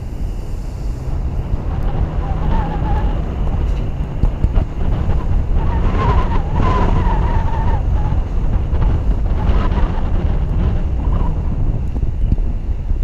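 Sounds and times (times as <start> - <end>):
faint wavering whine: 0.0 - 13.0
tyre and road noise: 0.0 - 13.0
wind rumbling on microphone: 0.0 - 13.0.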